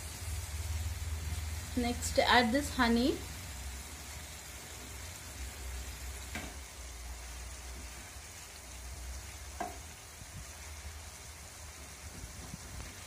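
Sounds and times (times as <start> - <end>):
bitter gourd sizzling in a pan: 0.0 - 13.0.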